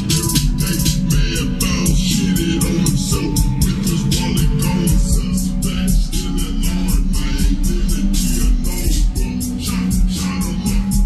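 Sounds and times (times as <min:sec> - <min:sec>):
high ticking rhythm: 0:00.0 - 0:11.0
loud music with heavy bass: 0:00.0 - 0:11.0.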